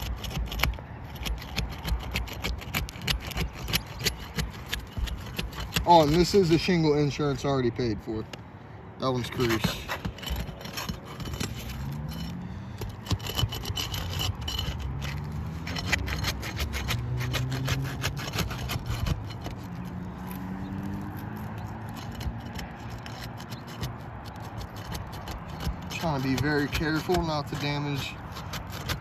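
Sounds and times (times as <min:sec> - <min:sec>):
tool scraping under roof shingle: 0:00.0 - 0:08.3, 0:09.0 - 0:29.0.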